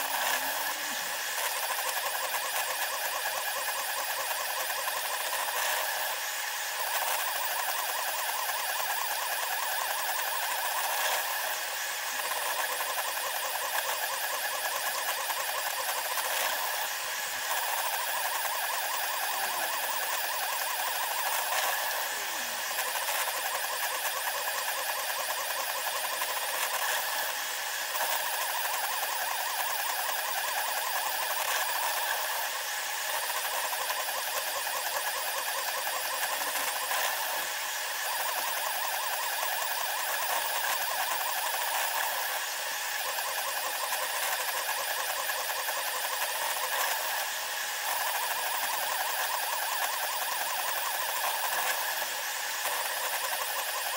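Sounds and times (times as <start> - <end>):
stepper motors whirring: 0.0 - 53.9.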